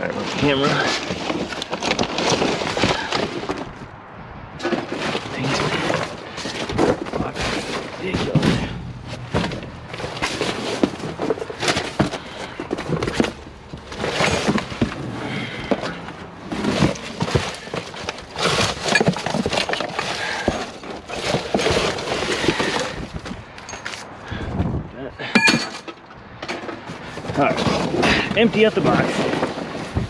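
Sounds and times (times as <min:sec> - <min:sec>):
scrap metal clattering and scraping: 0:00.0 - 0:03.9, 0:04.6 - 0:24.5, 0:25.2 - 0:30.0.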